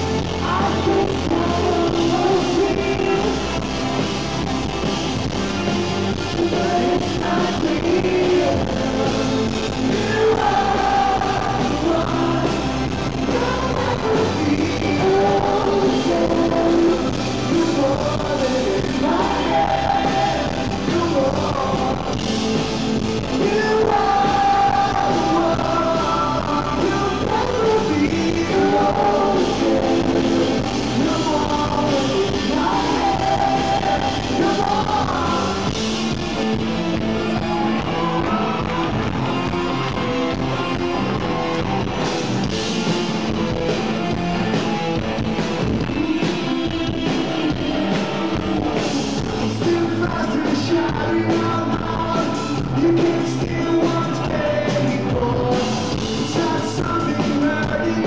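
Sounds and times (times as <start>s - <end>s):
person singing: 0.0s - 44.3s, 45.6s - 58.0s
drums: 0.0s - 58.0s
electric guitar: 0.0s - 58.0s.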